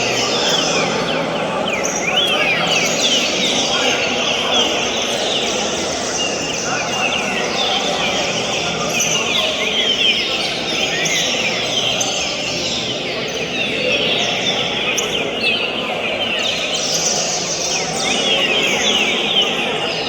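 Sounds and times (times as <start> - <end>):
birds singing whistled notes: 0.0 - 20.0
steady background noise: 0.0 - 20.0.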